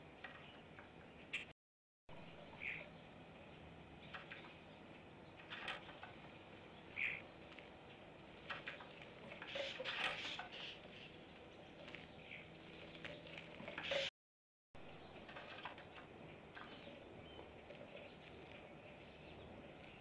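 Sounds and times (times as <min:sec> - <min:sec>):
small songbirds chirping: 0:02.2 - 0:14.1, 0:14.8 - 0:20.0.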